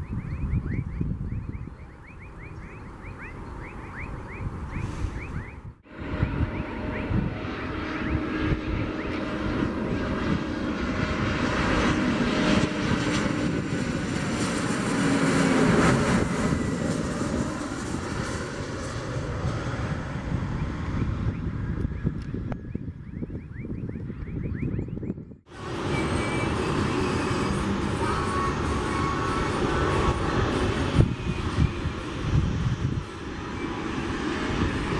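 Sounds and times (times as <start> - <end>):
airliner jet engines flying past: 0.0 - 34.9.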